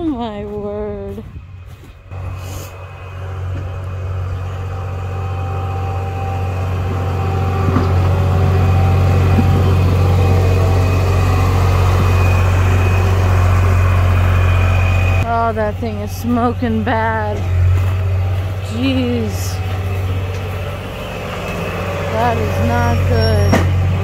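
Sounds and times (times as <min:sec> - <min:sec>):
skid steer engine running: 0:00.0 - 0:24.0.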